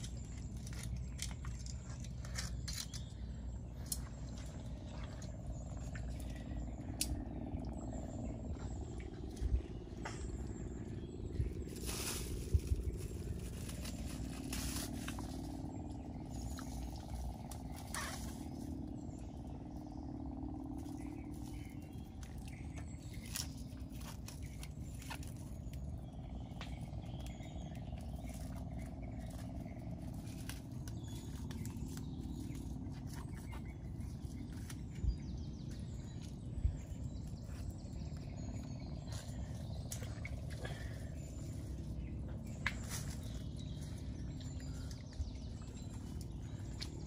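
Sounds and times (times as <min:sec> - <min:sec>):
faint bird chirps: 0:00.0 - 0:47.0
steady low rumble: 0:00.0 - 0:47.0.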